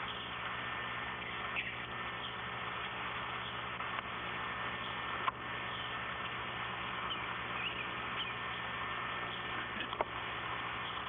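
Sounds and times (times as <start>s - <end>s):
low hum: 0.0s - 11.0s
steady hiss: 0.0s - 11.0s.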